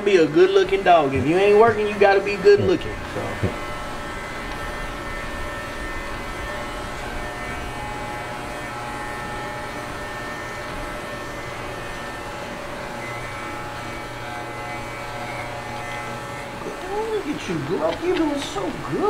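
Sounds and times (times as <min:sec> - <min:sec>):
electric clippers buzzing: 0:00.0 - 0:19.0.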